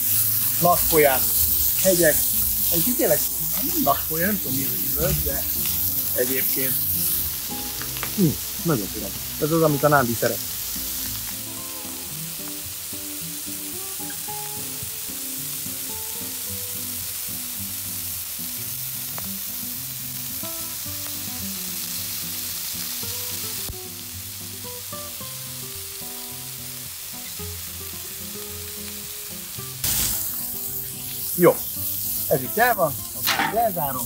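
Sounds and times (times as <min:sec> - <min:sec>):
meat sizzling on a griddle: 0:00.0 - 0:34.0
quiet background music: 0:00.1 - 0:17.6, 0:20.2 - 0:34.0.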